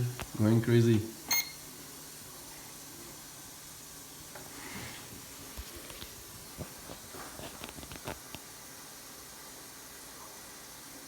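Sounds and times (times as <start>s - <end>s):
microwave running hiss: 0.0s - 11.0s.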